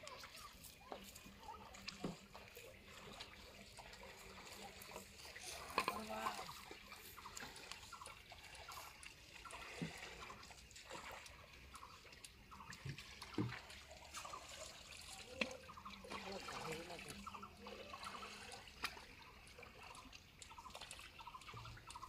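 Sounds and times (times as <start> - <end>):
river water trickling and dripping: 0.0 - 22.0
small water splashes: 0.0 - 22.0.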